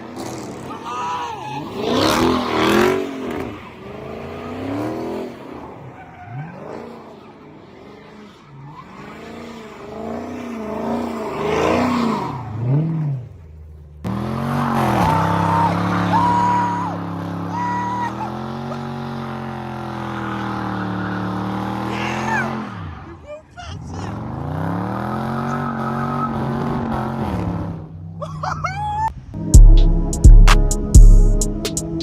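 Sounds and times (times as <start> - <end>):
car engine revving: 1.6 - 23.1, 23.8 - 28.1.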